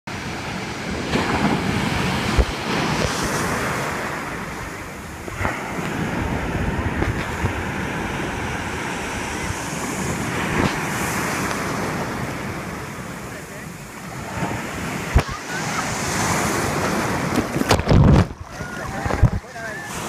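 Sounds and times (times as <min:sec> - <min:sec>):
sea surf breaking: 0:00.1 - 0:20.0.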